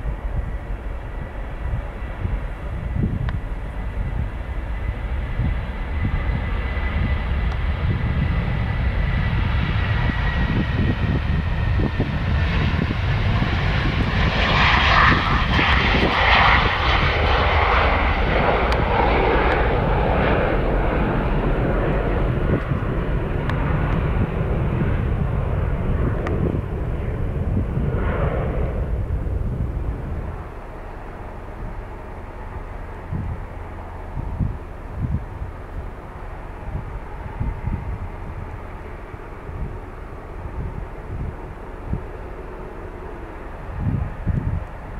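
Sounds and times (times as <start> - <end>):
jet engines rumbling: 0.0 - 44.9
thin engine whine: 0.0 - 44.9.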